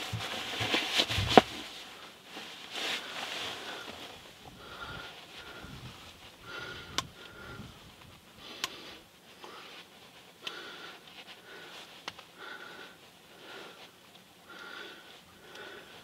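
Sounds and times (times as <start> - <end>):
person breathing and sniffing: 0.0 - 16.0.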